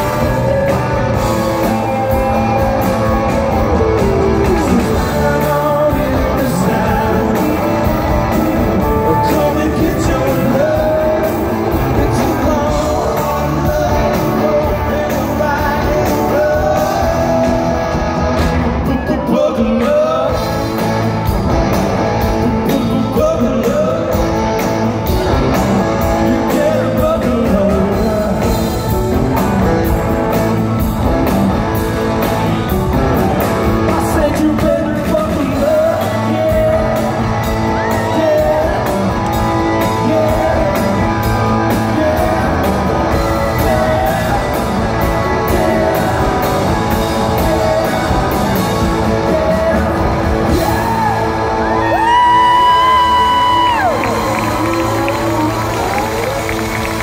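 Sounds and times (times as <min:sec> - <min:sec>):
man singing lead: 0:00.0 - 0:21.3, 0:22.2 - 0:30.9, 0:33.4 - 0:57.0
drum kit: 0:00.0 - 0:57.0
electric guitars: 0:00.0 - 0:57.0.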